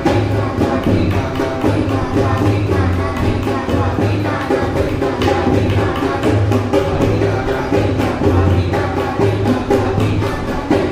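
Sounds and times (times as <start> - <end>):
hand drums fast rhythm: 0.0 - 10.9.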